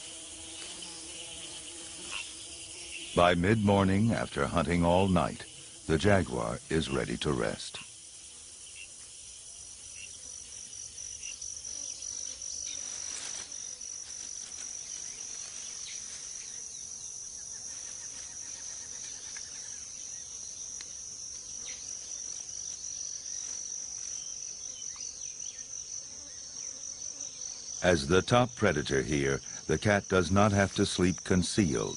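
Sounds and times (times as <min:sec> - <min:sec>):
insect chirps and calls: 0:00.0 - 0:31.9
insect chorus trilling: 0:00.0 - 0:31.9.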